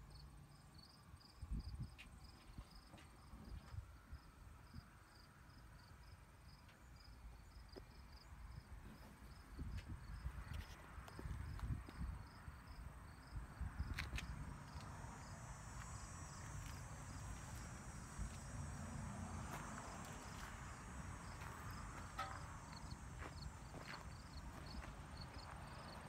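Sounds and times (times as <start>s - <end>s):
insects chirping: 0.1s - 26.0s.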